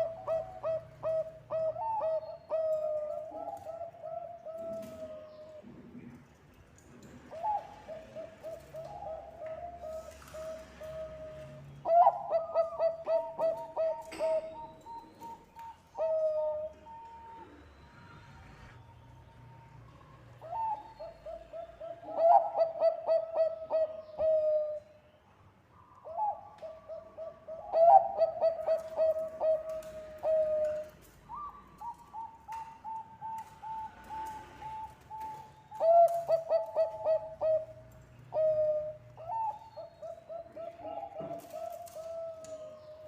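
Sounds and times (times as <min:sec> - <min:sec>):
dove cooing: 0:00.0 - 0:06.2, 0:07.2 - 0:18.8, 0:20.4 - 0:24.9, 0:26.0 - 0:43.0.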